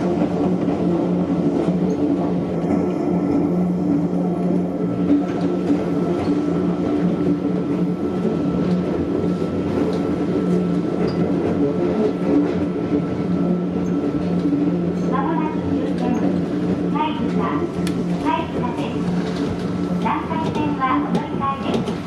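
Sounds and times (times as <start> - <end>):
electric train running on track: 0.0 - 22.0.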